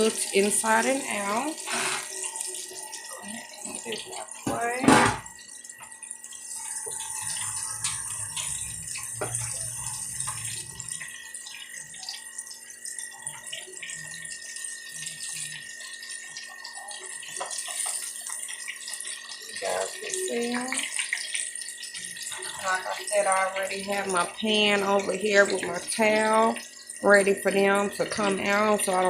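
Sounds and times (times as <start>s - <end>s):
food deep-frying in oil: 0.0s - 29.0s.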